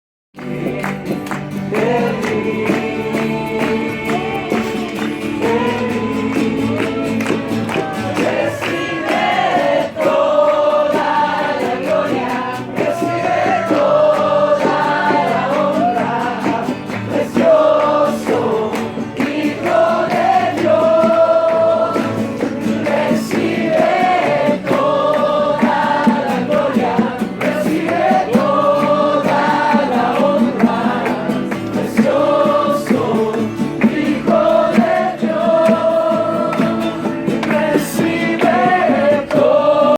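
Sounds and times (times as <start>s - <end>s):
group singing worship song: 0.4s - 39.9s.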